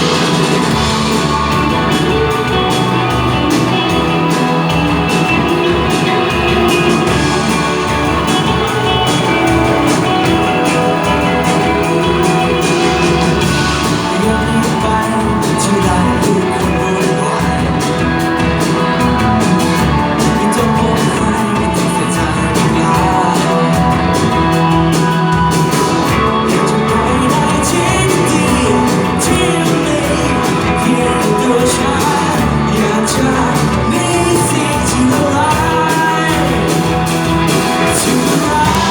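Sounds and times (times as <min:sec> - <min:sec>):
person singing: 0:00.0 - 0:38.9
rock band playing live: 0:00.0 - 0:38.9.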